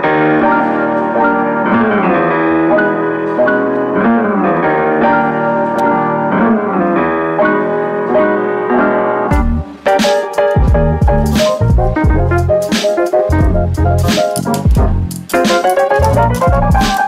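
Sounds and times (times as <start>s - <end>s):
piano chords background music: 0.0s - 17.0s.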